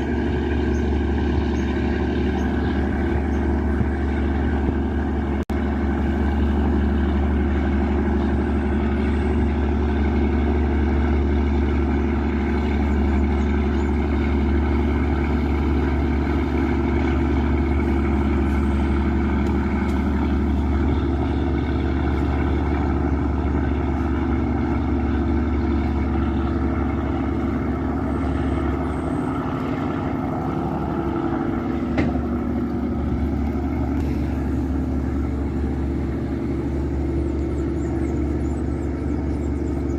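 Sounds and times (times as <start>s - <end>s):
boat diesel engine drone: 0.0s - 39.9s.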